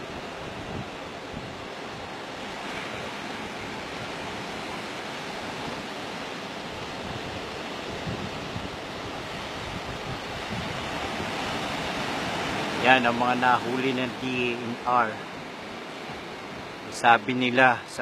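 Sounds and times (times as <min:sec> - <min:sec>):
wind buffeting microphone: 0:00.0 - 0:16.9
sea surf washing onto shore: 0:00.0 - 0:18.0.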